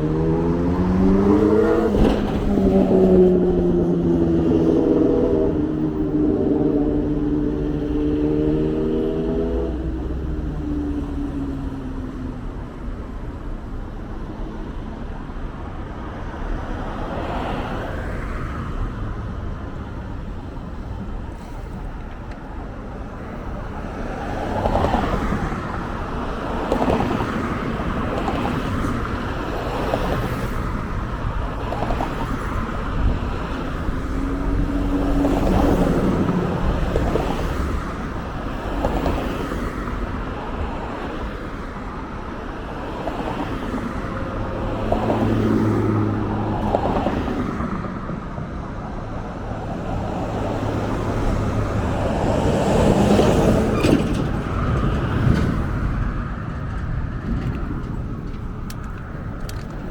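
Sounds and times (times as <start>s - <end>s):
vehicle road noise hum: 0.0s - 59.9s.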